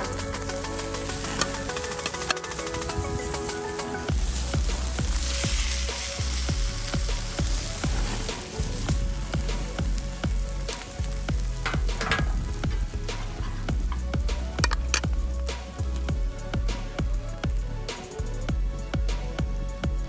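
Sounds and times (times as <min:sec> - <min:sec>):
fat crackling and popping in fire: 0:00.0 - 0:20.0
low music beat: 0:00.0 - 0:20.0
steaks sizzling over charcoal: 0:00.0 - 0:20.0.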